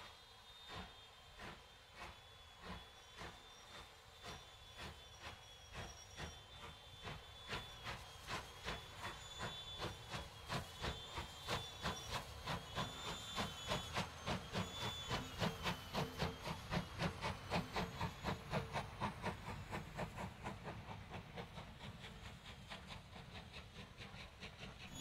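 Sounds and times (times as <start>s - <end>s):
faint steam hiss: 0.0s - 25.0s
steam locomotive exhaust beats: 0.0s - 25.0s.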